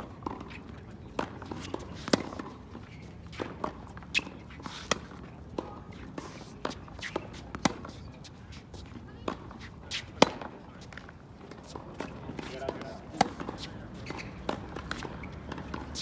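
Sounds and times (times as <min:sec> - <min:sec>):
tennis ball bouncing: 0:00.0 - 0:16.0
tennis balls struck by rackets: 0:00.0 - 0:16.0.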